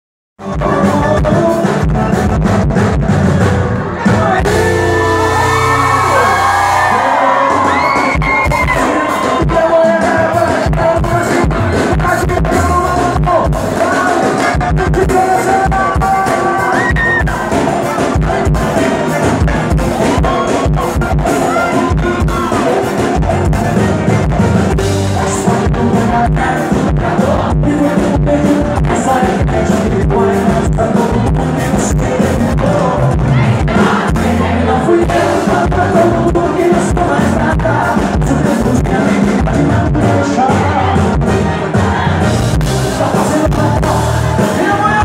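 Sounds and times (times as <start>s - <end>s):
man singing into a microphone: 0.4s - 2.4s, 4.0s - 41.4s, 42.8s - 45.0s
live band music: 0.4s - 45.0s.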